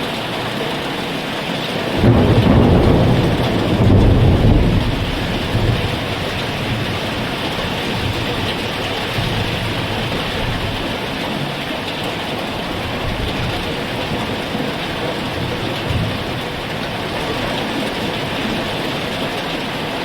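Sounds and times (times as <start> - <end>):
heavy rain falling: 0.0 - 20.0
thunder rumbling: 1.9 - 19.4.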